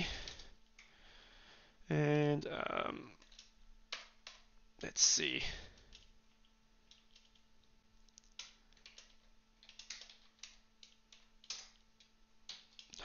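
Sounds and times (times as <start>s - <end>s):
faint keyboard typing: 0.0s - 1.0s, 3.0s - 13.0s.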